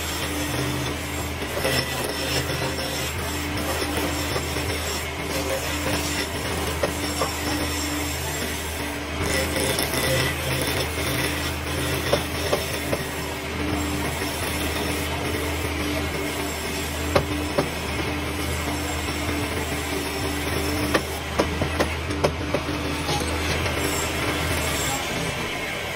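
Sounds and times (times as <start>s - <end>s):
tool scraping spinning wood: 0.0s - 25.9s
wood lathe motor hum: 0.0s - 25.9s.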